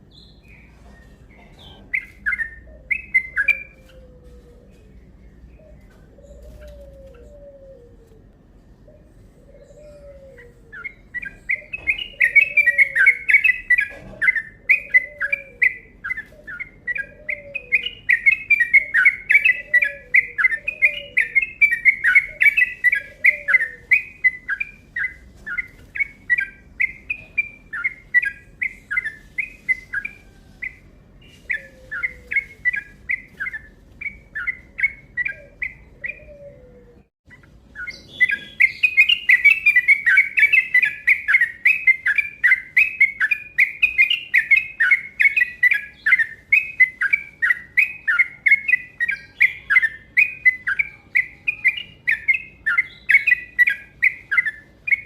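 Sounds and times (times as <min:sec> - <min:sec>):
low falling bird call: 0:00.0 - 0:55.0.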